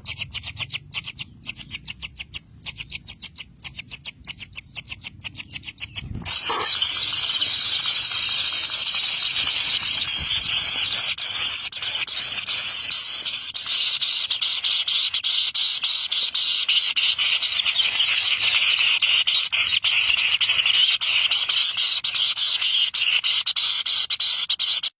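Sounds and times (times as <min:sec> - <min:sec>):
birds chirping chorus: 0:00.0 - 0:23.7.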